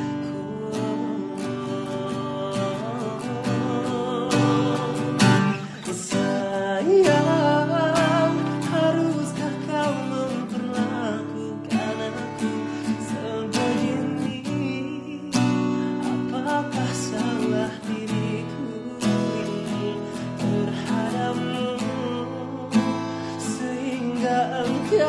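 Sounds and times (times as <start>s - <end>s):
acoustic guitar strumming: 0.0s - 25.0s
man singing: 0.0s - 25.0s.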